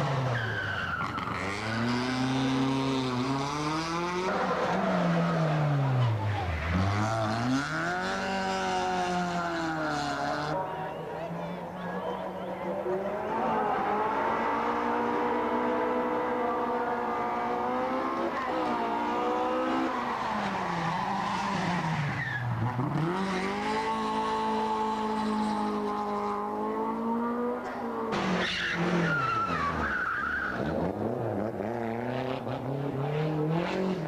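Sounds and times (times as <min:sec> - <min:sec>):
rally car engine revving: 0:00.0 - 0:10.6, 0:11.7 - 0:34.0.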